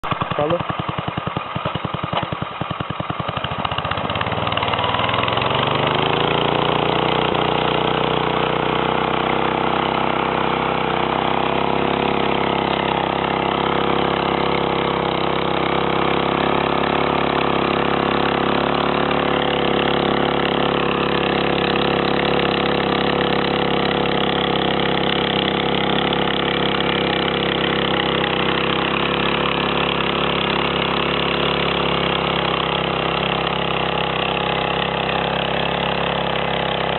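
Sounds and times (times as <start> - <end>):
farm machine engine chugging: 0.0 - 36.9.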